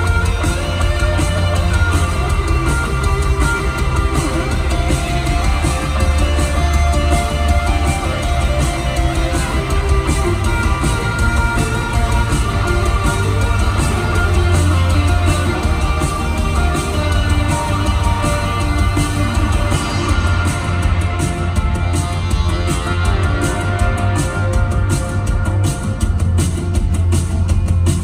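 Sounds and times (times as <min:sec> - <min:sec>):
electric guitars: 0:00.0 - 0:28.0
heavy bass: 0:00.0 - 0:28.0
steady drum beat: 0:00.0 - 0:28.0.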